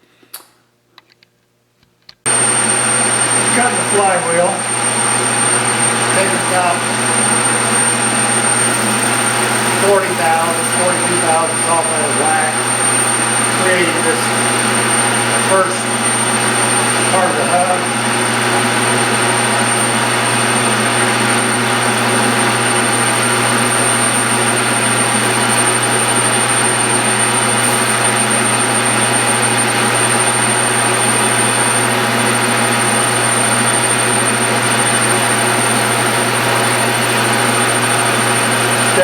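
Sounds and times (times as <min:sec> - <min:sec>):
metal lathe running: 0:02.3 - 0:39.0
thin high whine: 0:02.3 - 0:39.0.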